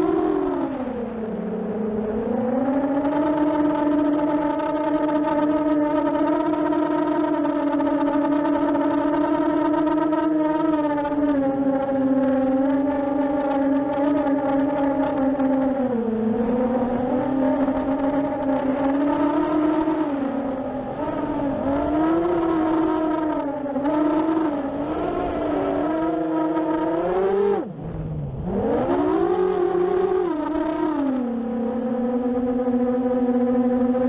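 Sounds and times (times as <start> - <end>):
drone motors and propellers whining: 0.0 - 34.0.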